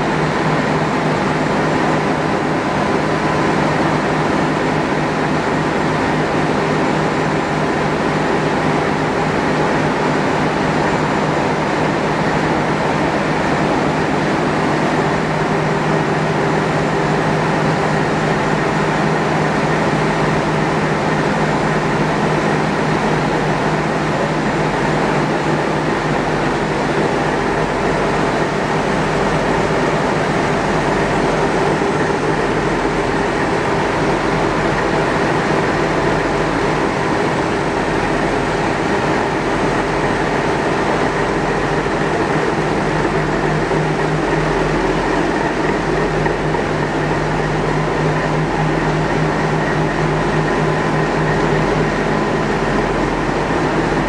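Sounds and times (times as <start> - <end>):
ship diesel engines droning: 0.0 - 54.0.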